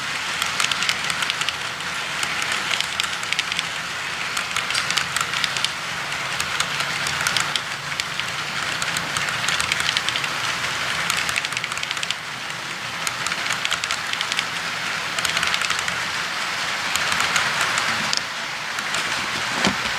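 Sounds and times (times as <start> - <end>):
model train running: 0.0 - 19.9
wheels clicking over rails: 0.0 - 19.9.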